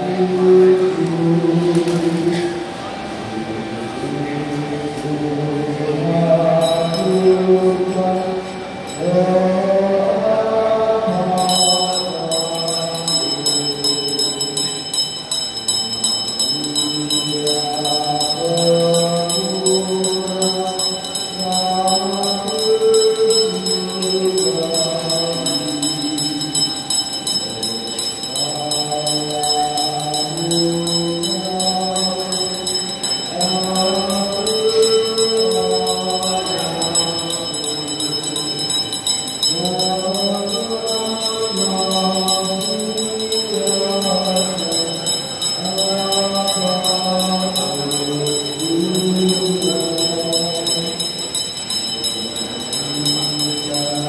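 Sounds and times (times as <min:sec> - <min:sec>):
person chanting: 0:00.0 - 0:54.0
handbell ringing rapidly: 0:06.6 - 0:07.5, 0:11.4 - 0:54.0.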